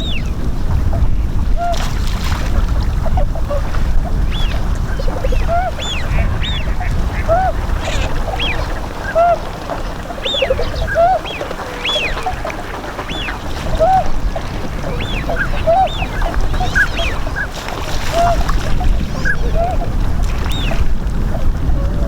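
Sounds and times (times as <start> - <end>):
swans honking: 2.6 - 20.9.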